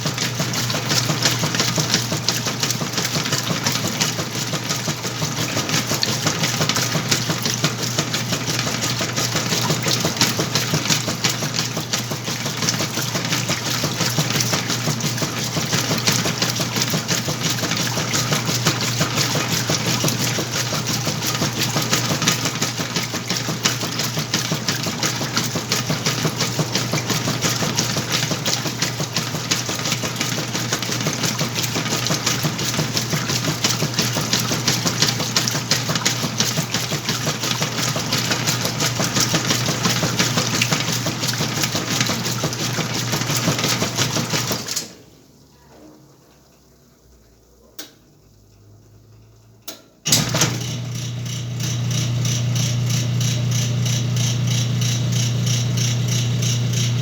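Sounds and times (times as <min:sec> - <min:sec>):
washing machine motor hum: 0:00.0 - 0:45.4, 0:50.1 - 0:57.0.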